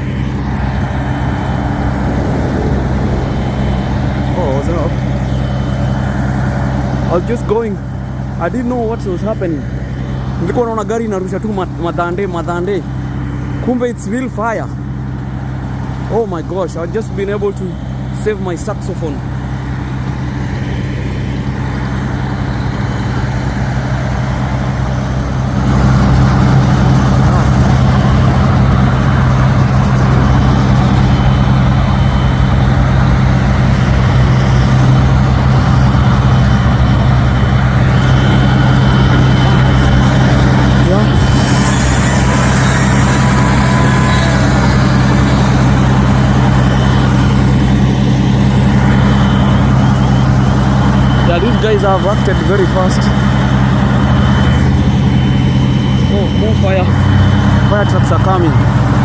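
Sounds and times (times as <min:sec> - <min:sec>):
road noise: 0:00.0 - 0:59.0
traffic noise: 0:00.0 - 0:59.0
vehicle engine idling: 0:00.0 - 0:59.0.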